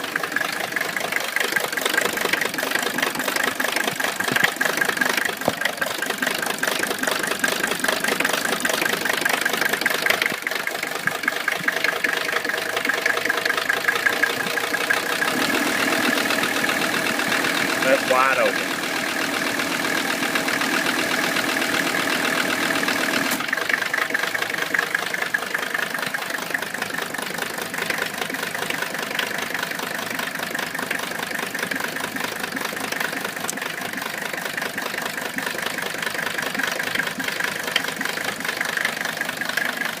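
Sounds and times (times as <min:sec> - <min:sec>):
car engine rough idle: 0:00.0 - 0:40.0.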